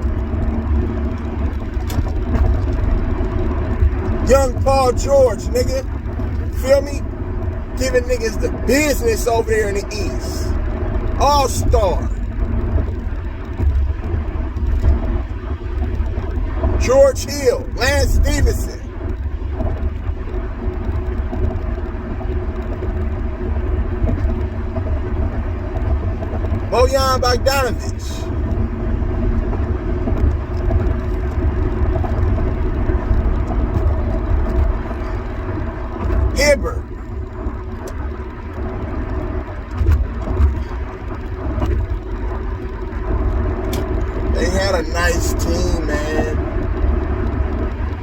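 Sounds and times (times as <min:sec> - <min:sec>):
car cabin road and engine noise: 0:00.0 - 0:48.0
low rumble of vehicle noise: 0:00.0 - 0:48.0.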